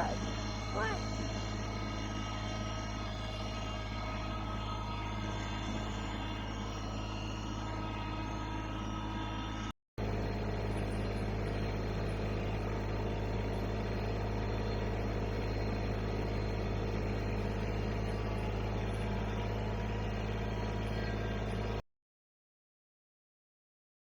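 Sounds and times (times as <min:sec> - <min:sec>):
vehicle engine droning: 0:00.0 - 0:21.8.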